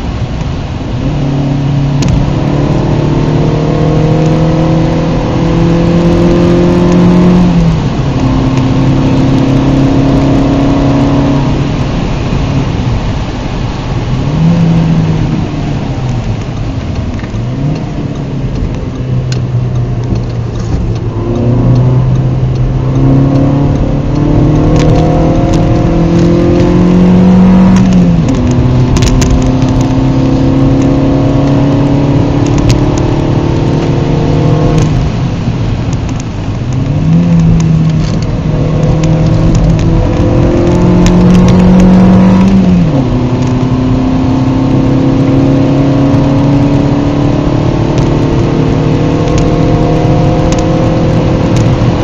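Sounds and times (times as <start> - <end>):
car engine accelerating: 0.0 - 52.0
tyre and road noise: 0.0 - 52.0.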